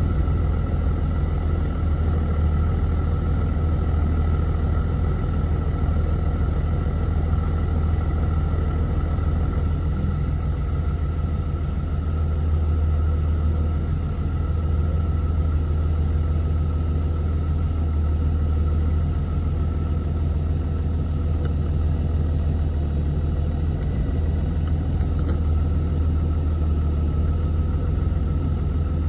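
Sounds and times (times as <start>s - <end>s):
diesel truck engine rumble: 0.0s - 29.0s.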